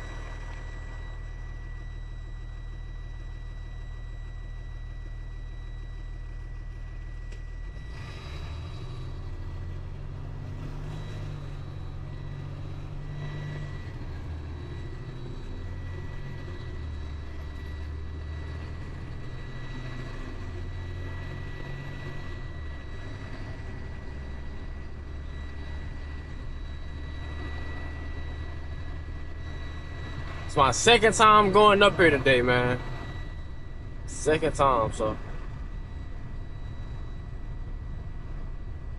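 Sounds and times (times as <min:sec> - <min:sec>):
truck engine pulling away: 0:07.2 - 0:38.9.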